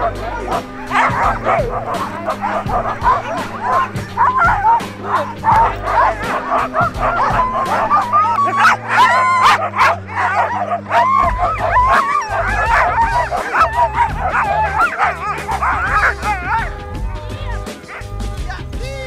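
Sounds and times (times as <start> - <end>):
sled dogs barking and howling: 0.0 - 19.0.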